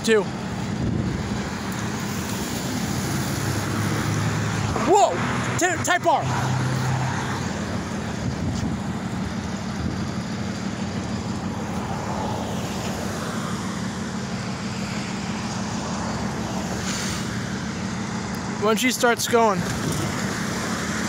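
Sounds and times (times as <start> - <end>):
low engine drone: 0.0 - 18.7
tyre and road noise: 0.0 - 21.0.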